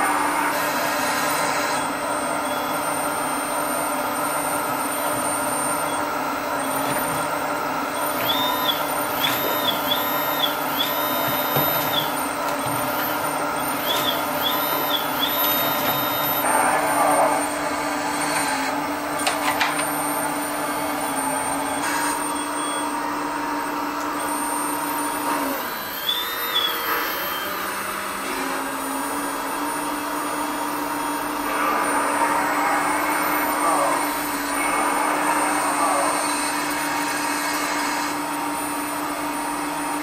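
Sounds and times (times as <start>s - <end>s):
model excavator hydraulic pump: 0.0s - 40.0s.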